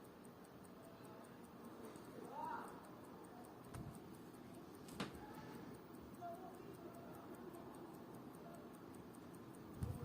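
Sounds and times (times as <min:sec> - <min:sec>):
watch ticking: 0:00.0 - 0:10.0.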